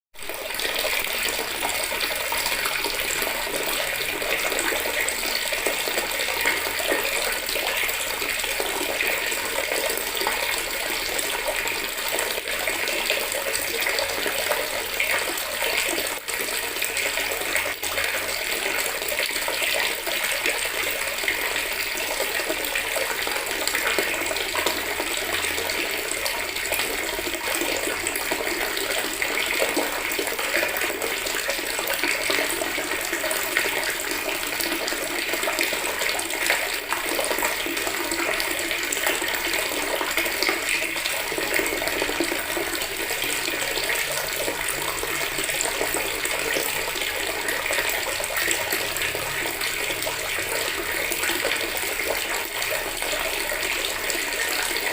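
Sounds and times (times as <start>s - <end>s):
tap water running into bucket: 0.2s - 54.9s.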